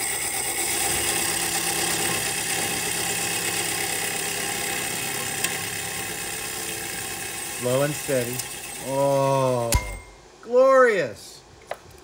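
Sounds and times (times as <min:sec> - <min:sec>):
milling machine whirring: 0:00.0 - 0:10.2.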